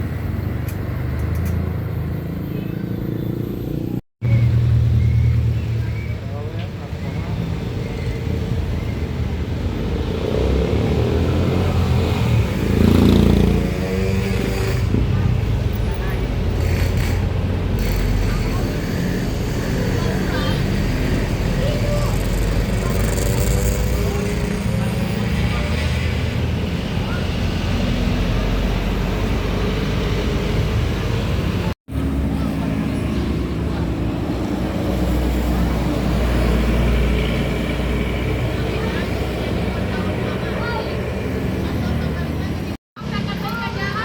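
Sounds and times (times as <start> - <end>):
bus engine rumbling: 0.0 - 44.0
road noise: 0.0 - 44.0.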